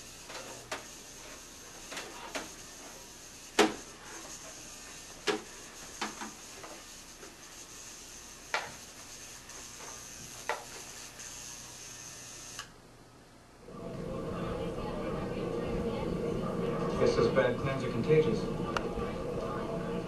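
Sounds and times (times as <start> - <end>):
faint hum with high whine: 0.0 - 20.0.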